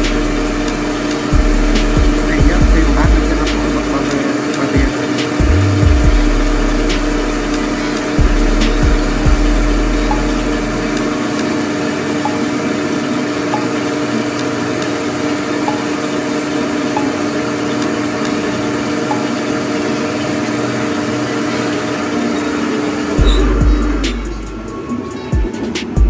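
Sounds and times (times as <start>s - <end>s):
lathe machine hum: 0.0s - 26.0s.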